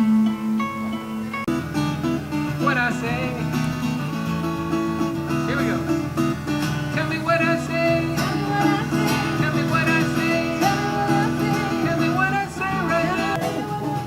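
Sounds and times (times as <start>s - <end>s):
bluegrass string band music: 0.0s - 14.0s.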